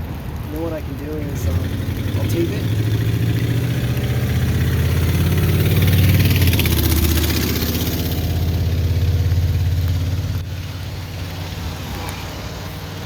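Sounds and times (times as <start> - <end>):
engine running: 1.3 - 13.0.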